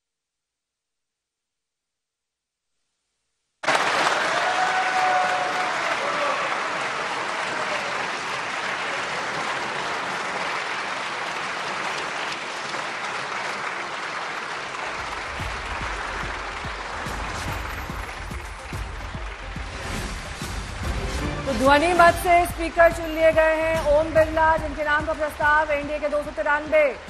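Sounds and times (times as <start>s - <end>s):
applause from a chamber: 3.6s - 27.0s.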